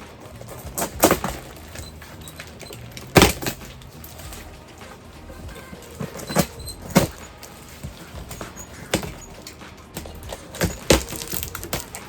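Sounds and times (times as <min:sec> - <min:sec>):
toys and packaging clicking: 0:00.0 - 0:12.0.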